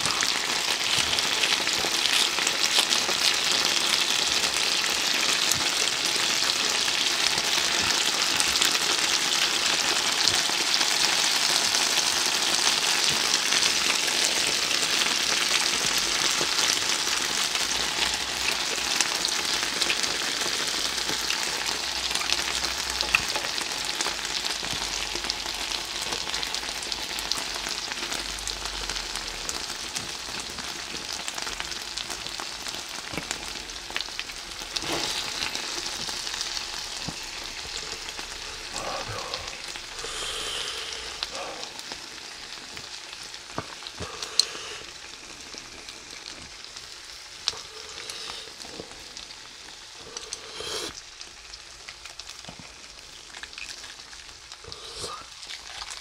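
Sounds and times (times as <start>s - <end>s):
meat sizzling on grill plate: 0.0s - 56.0s.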